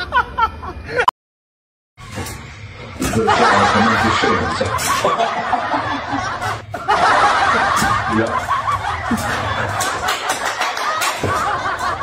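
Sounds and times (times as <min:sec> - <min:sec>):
many people laughing: 0:00.0 - 0:01.1, 0:02.9 - 0:12.0.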